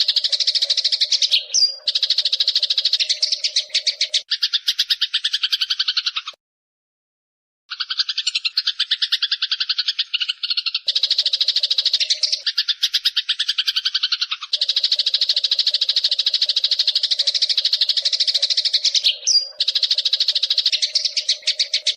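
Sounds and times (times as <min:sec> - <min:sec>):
sparrow chattering chirps: 0:00.0 - 0:06.4, 0:07.7 - 0:21.9.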